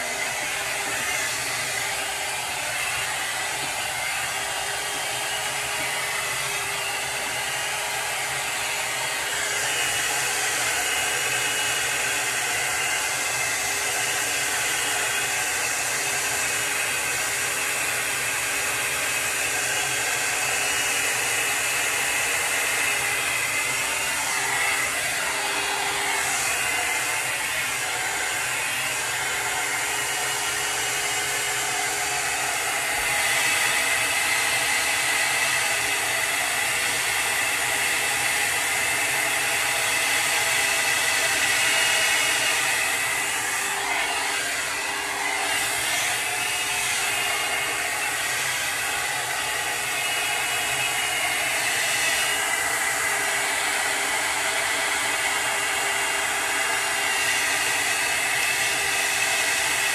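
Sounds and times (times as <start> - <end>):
blower motor whirring: 0.0 - 59.9.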